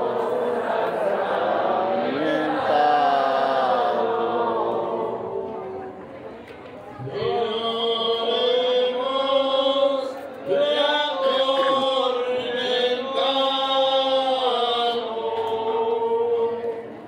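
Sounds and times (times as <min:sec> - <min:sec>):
voices singing a hymn: 0:00.0 - 0:06.0, 0:07.0 - 0:17.0.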